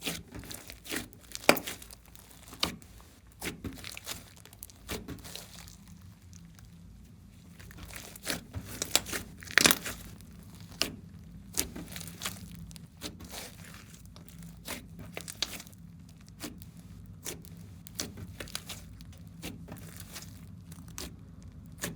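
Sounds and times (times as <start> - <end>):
slime squeezed with sticky pops: 0.0 - 6.2, 7.6 - 21.9.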